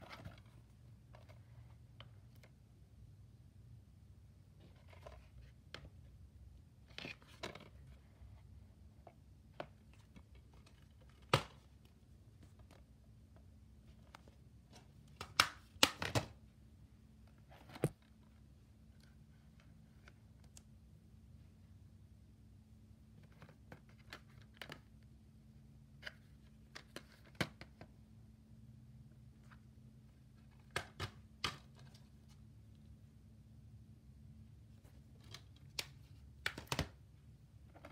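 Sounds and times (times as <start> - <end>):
faint steady hum: 0.0 - 37.9.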